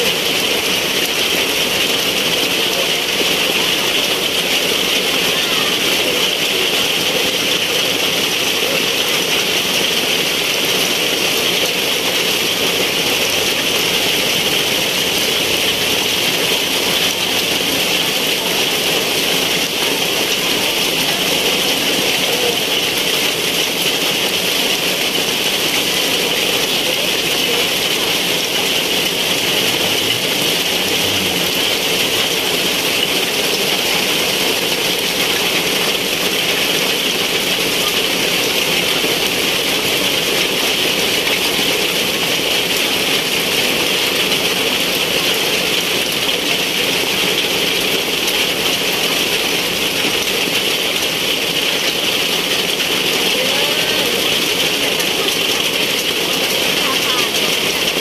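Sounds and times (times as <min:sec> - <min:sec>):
heavy rain on paving: 0:00.0 - 0:58.0.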